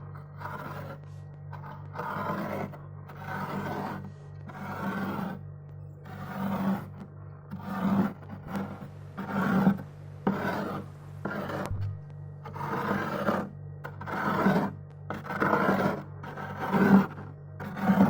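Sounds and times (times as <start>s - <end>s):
bowl scraping ice in freezer: 0.2s - 5.4s, 6.1s - 11.8s, 12.4s - 18.0s.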